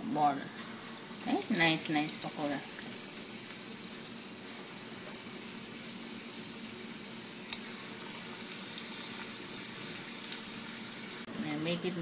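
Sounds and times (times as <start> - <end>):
batter deep-frying in oil: 0.0 - 12.0.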